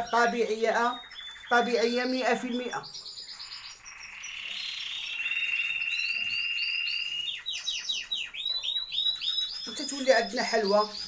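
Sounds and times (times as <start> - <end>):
songbird trilling: 0.0 - 11.0.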